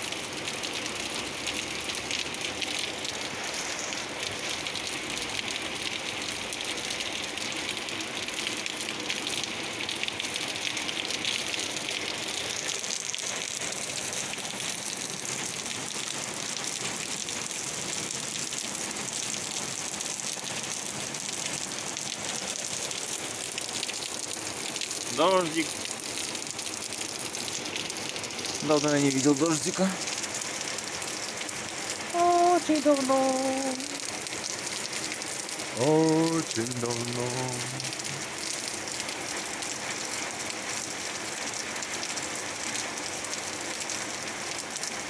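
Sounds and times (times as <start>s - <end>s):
heavy rain splashing on concrete: 0.0s - 45.0s.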